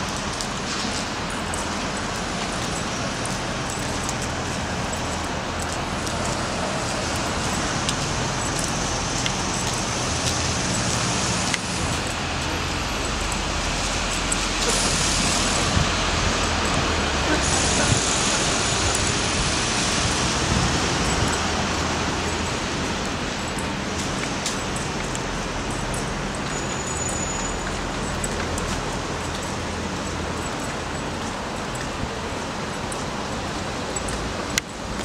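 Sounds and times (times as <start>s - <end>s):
passing motor vehicles: 0.0s - 35.0s.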